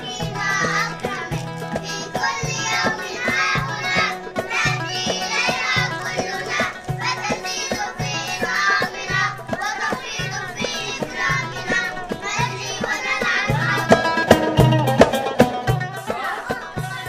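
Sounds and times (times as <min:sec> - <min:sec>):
children singing: 0:00.0 - 0:17.0
instrumental music with beat: 0:00.0 - 0:17.0.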